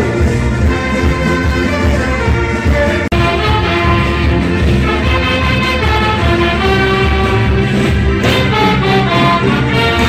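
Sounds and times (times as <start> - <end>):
live band playing carnival march: 0.0 - 10.0.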